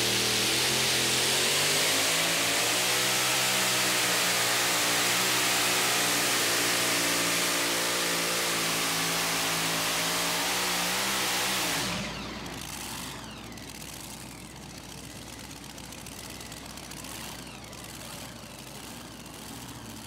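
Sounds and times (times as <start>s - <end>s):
supercharged truck engine: 0.0s - 20.0s.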